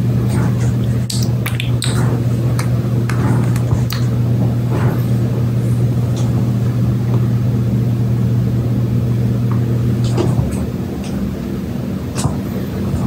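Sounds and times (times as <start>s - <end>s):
low hum with tones: 0.0s - 13.0s.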